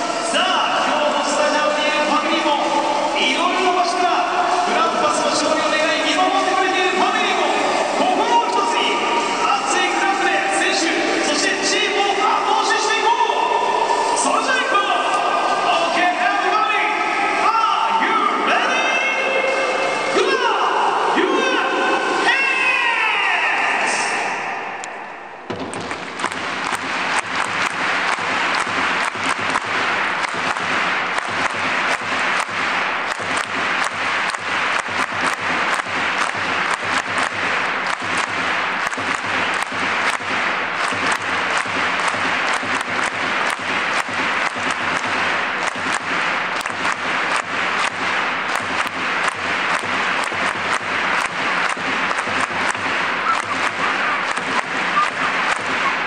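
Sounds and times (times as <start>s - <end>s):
stadium crowd clapping: 0.0s - 18.8s, 24.8s - 56.0s.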